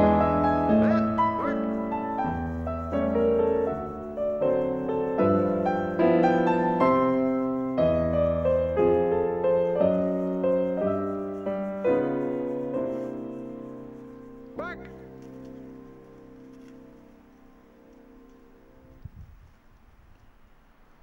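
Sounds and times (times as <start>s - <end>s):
slow piano music: 0.0s - 19.1s.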